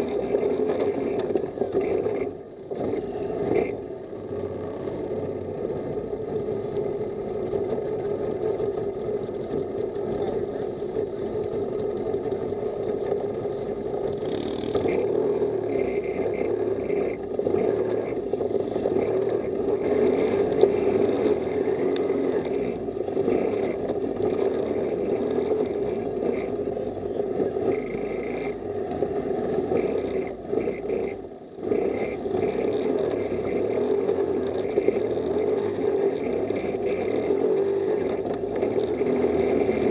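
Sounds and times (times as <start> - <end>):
buggy engine running: 0.0 - 39.9.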